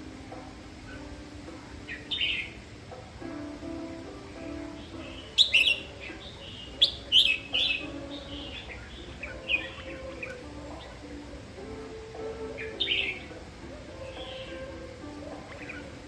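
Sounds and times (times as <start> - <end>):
bird chirping phrases: 0.0 - 16.0.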